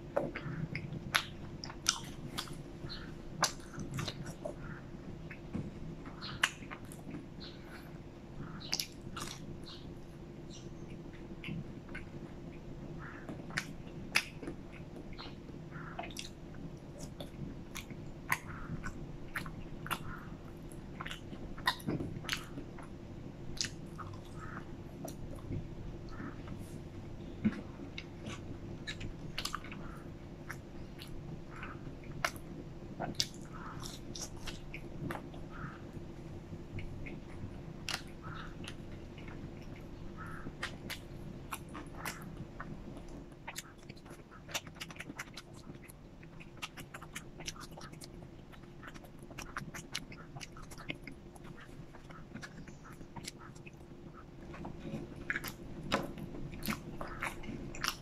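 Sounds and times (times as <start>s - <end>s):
chewing mouth clicks and smacks: 0.2s - 4.6s, 8.6s - 9.9s, 13.3s - 15.4s, 16.0s - 22.9s, 23.5s - 26.8s, 27.4s - 35.7s, 36.7s - 58.0s.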